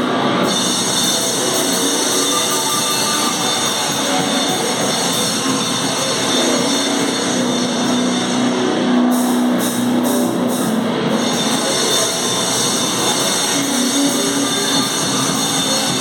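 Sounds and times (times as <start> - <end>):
noise metal band playing: 0.0 - 16.0.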